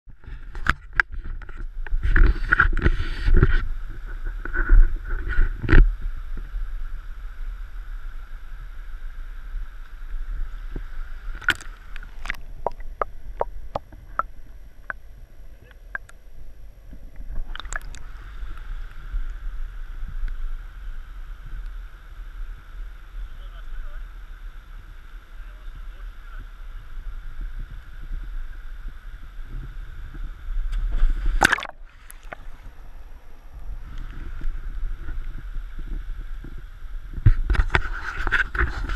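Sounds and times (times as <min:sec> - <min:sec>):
water gurgling and lapping: 0:00.1 - 0:23.0, 0:23.9 - 0:38.9
small stream rushing: 0:00.2 - 0:38.9.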